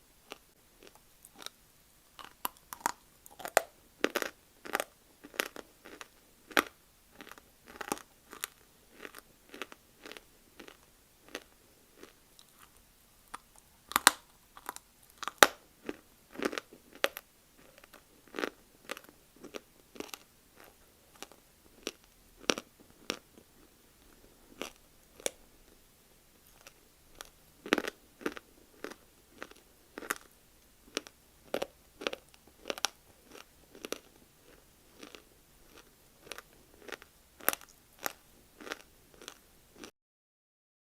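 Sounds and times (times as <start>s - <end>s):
person chewing dry clay: 0.2s - 25.8s, 26.4s - 39.9s.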